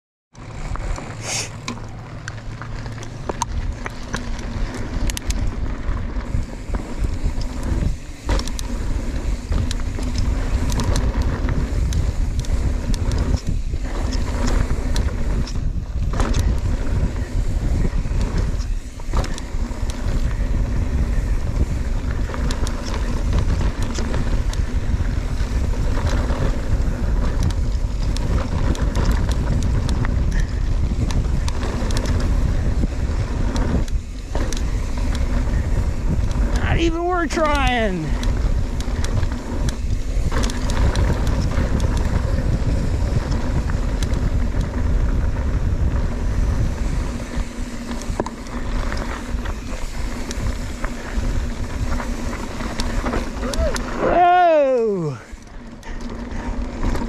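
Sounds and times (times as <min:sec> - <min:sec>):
wind buffeting microphone: 0:01.9 - 0:57.0.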